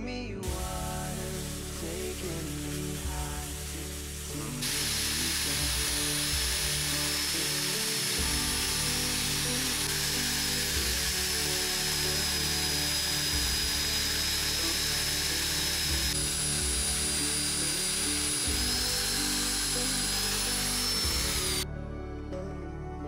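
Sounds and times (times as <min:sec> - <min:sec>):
background music: 0:00.0 - 0:23.0
angle grinder buffing steel blade: 0:00.4 - 0:21.6.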